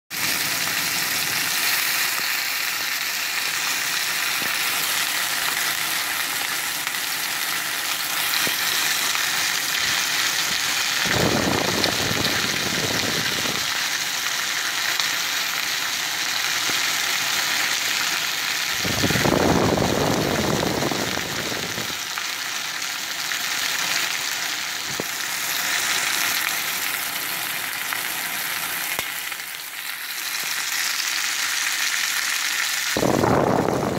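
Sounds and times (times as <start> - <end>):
steak sizzling in a skillet: 0.1 - 33.9.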